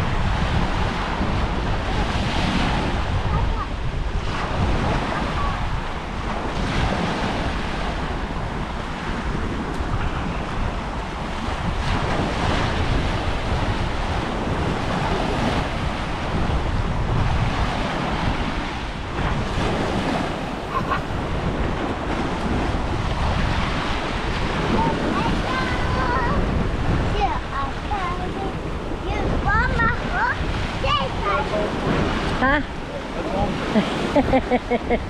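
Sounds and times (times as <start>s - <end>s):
waves washing onto beach: 0.0s - 35.0s
wind buffeting microphone: 0.0s - 35.0s.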